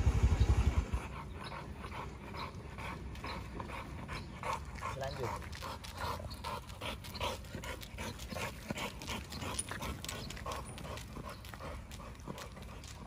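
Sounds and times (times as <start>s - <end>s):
dog panting: 0.7s - 13.0s.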